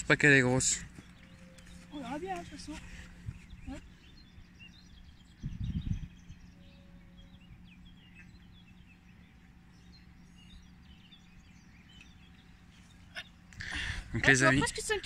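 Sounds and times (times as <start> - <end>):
birds chirping: 0.0 - 15.0
faint steady low hum: 0.0 - 15.0.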